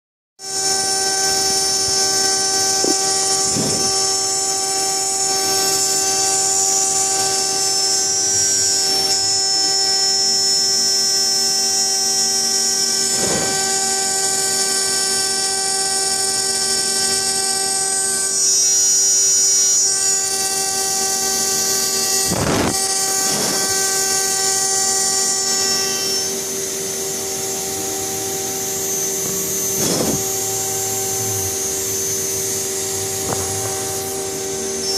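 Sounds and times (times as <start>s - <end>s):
router spindle whine: 0.4s - 34.9s.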